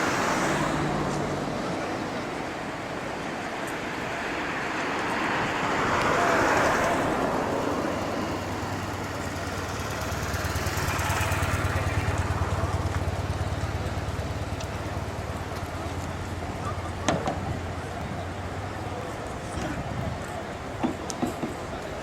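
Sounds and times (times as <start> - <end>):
vehicle passing: 0.0 - 20.8.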